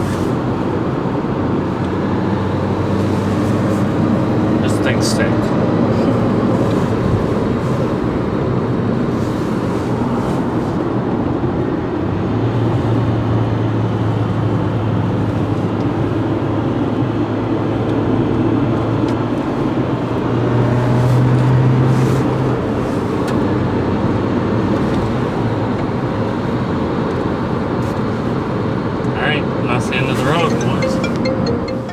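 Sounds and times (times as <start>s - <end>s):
tyre and road noise: 0.0s - 30.8s
car engine drone: 0.0s - 31.9s.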